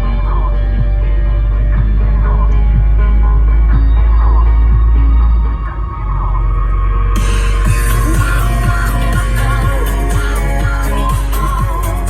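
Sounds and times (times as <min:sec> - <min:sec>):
music with held chords and bass: 0:00.0 - 0:12.0.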